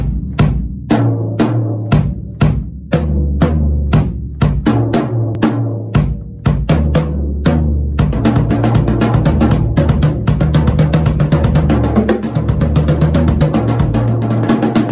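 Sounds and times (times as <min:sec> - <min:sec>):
drum strokes booming: 0:00.0 - 0:14.9.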